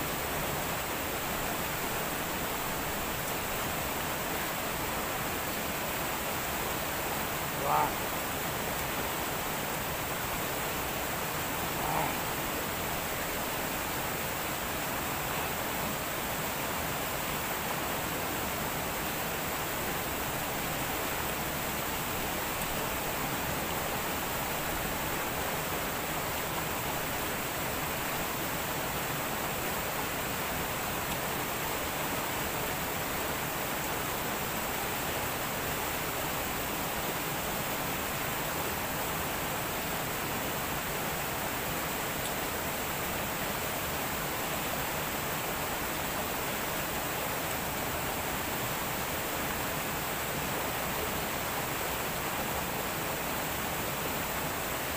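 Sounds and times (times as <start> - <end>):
water flowing over rocks: 0.0 - 54.9.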